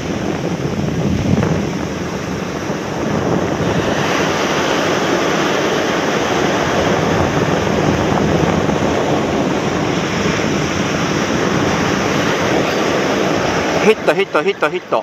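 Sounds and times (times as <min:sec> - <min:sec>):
surf breaking on beach: 0:00.0 - 0:15.0
wind on microphone: 0:00.0 - 0:15.0.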